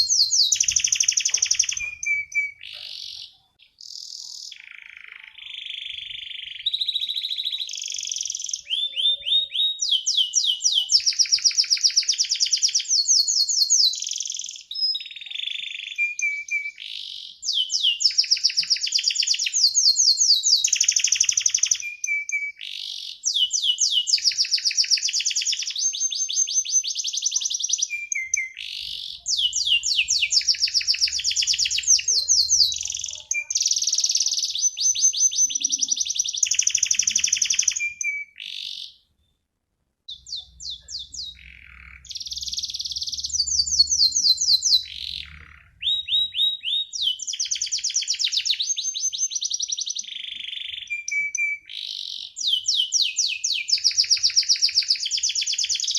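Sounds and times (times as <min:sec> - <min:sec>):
canary singing trills: 0:00.0 - 0:39.4, 0:40.1 - 0:55.9.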